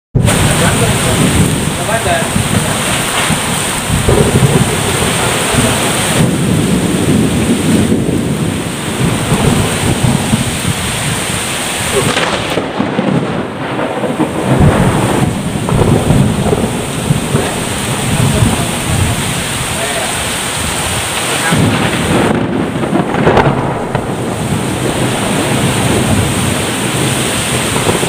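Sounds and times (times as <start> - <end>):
heavy rain: 0.1 - 28.0
wind buffeting microphone: 0.1 - 28.0.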